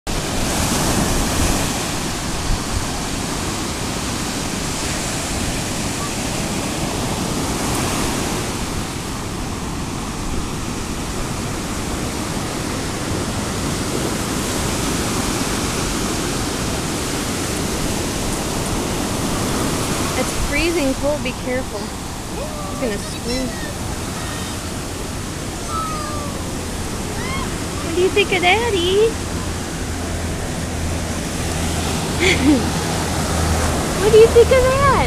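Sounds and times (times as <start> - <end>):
ocean waves breaking: 0.1 - 35.0.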